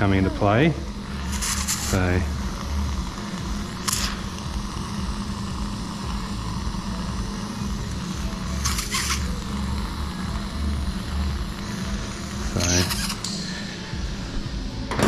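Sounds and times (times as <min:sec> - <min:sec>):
low mechanical hum: 0:00.0 - 0:15.0
short hissing noises: 0:01.0 - 0:14.8.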